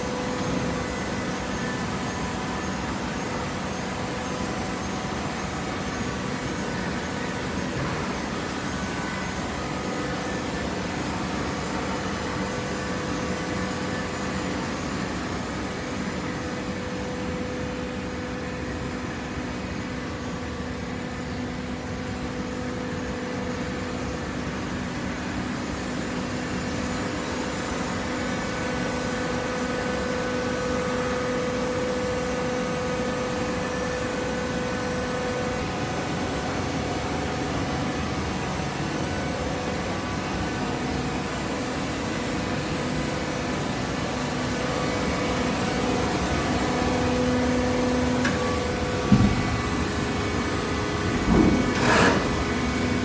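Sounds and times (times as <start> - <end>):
machine motor and pump humming: 0.0 - 53.0.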